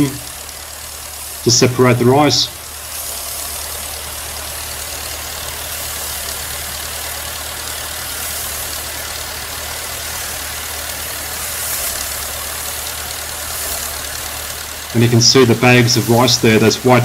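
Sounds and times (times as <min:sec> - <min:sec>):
even hiss: 0:00.0 - 0:17.0
threshing machine engine running: 0:00.0 - 0:17.0.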